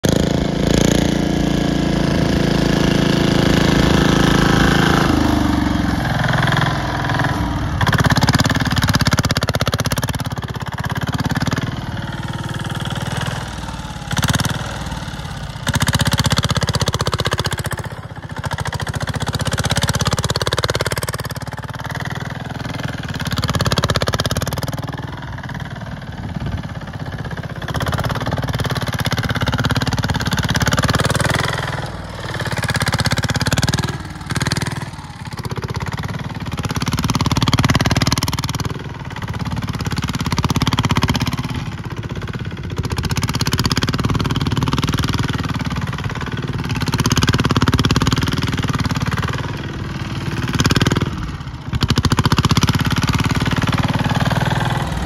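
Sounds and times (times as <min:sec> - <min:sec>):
diesel mower engine running: 0:00.0 - 0:55.0.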